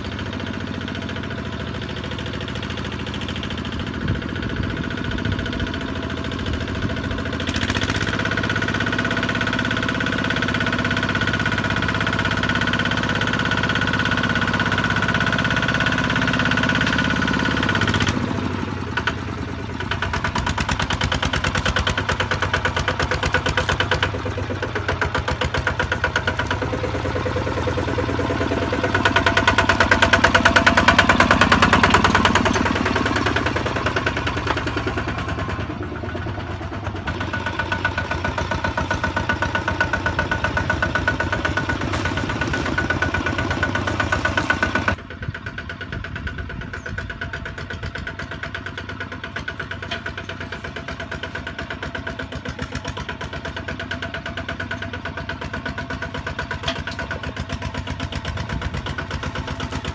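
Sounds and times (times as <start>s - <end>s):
diesel tractor engine chugging: 0.0s - 59.9s.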